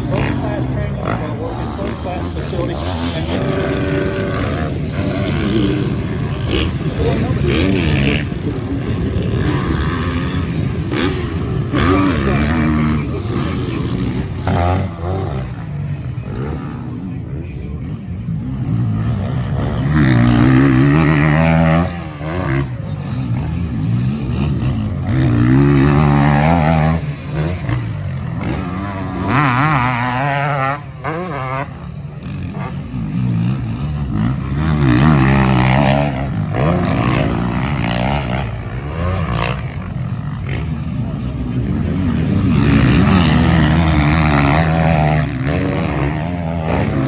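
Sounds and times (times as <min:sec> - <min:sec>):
motocross bikes revving past: 0:00.0 - 0:47.0.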